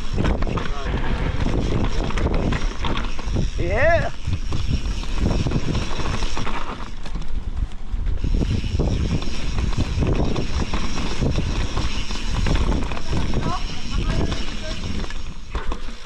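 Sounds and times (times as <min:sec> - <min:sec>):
bike rattling and knocking: 0:00.0 - 0:16.0
wind rush on microphone: 0:00.0 - 0:16.0.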